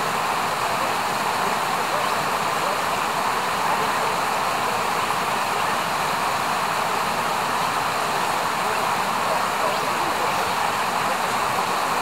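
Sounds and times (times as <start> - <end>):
river running over rocks: 0.0 - 12.0.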